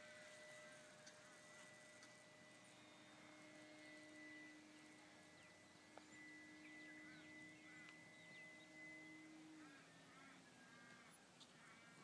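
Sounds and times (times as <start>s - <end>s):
faint steady hum: 0.0s - 12.0s
faint high chirps: 0.1s - 12.0s.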